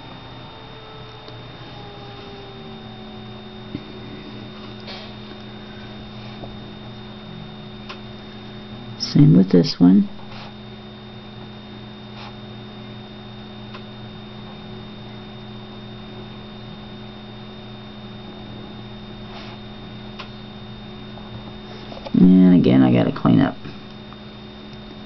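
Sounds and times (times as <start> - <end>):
faint high-pitched whine: 0.0 - 25.0
low electrical hum: 0.0 - 25.0.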